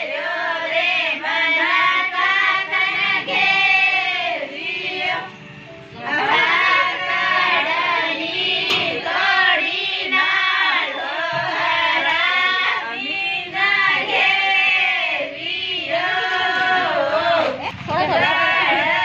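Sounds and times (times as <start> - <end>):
women and girls singing folk song: 0.0 - 19.0.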